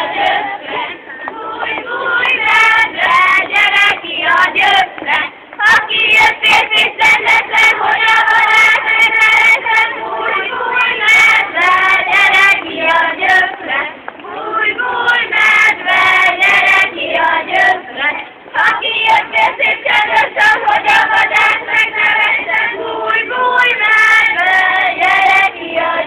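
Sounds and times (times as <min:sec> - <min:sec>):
women singing folk song: 0:00.0 - 0:26.0.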